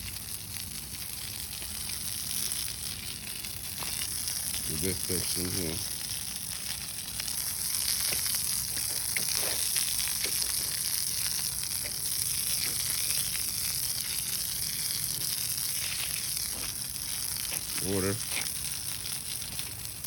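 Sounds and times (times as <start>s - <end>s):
water spraying onto concrete: 0.0s - 20.0s.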